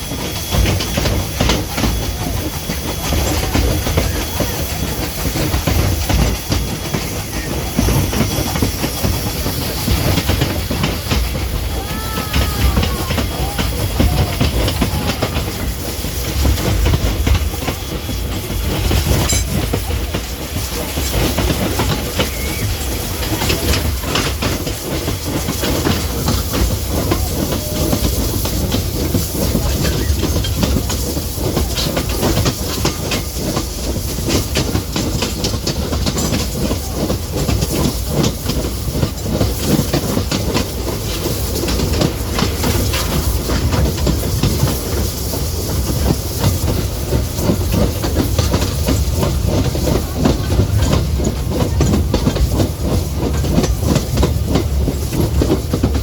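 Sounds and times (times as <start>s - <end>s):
train rumbling along track: 0.0s - 56.0s
wheels clicking over rail joints: 0.0s - 56.0s.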